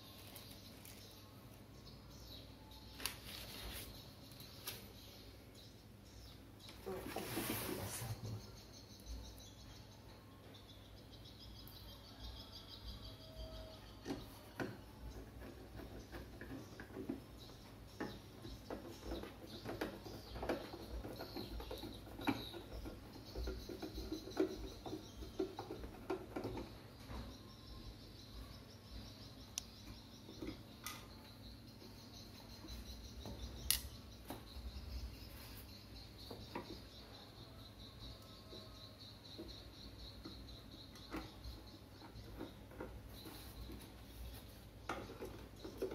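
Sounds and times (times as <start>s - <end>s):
faint birds chirping: 0.0s - 45.9s.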